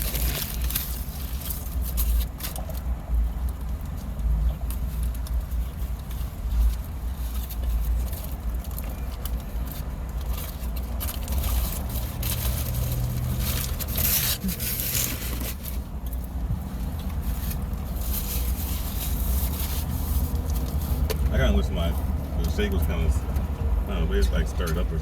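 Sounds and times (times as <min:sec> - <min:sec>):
highway traffic rumble: 0:00.0 - 0:25.0
vehicles swishing by: 0:00.0 - 0:25.0.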